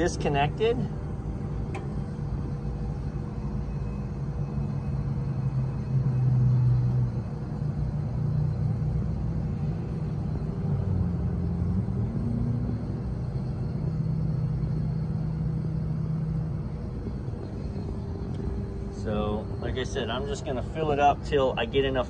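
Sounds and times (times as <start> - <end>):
low mechanical engine rumble: 0.0 - 22.0.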